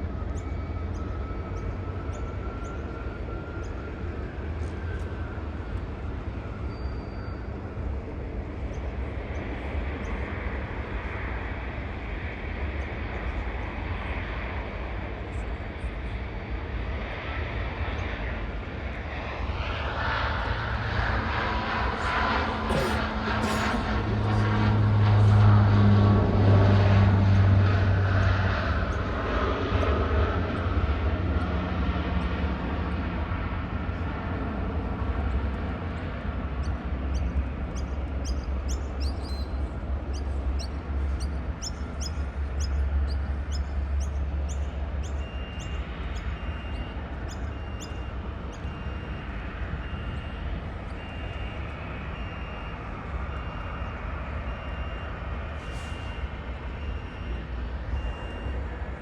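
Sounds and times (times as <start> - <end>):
jet airliner rumbling: 0.0 - 55.5.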